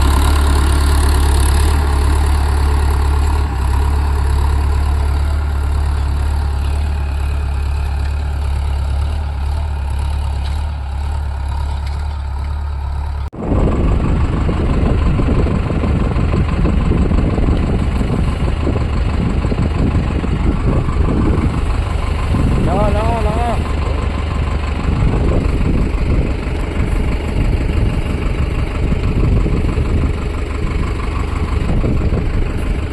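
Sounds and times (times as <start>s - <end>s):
diesel tractor engine running: 0.0s - 32.9s.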